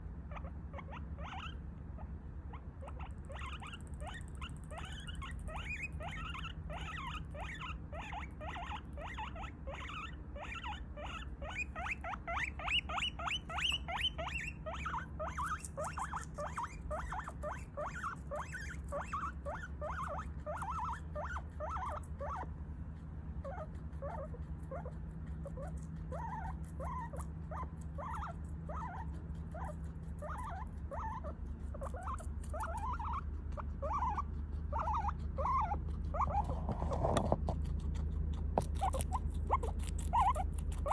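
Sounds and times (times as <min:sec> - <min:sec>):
guinea pig squeaking: 0:00.0 - 0:40.9.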